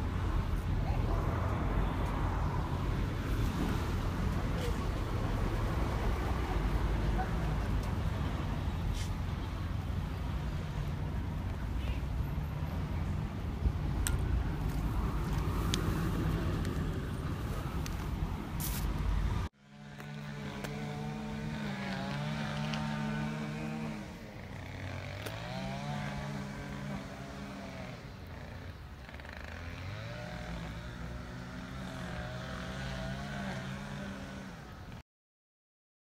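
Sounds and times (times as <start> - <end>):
engine running with pitched hum: 0.0 - 35.0.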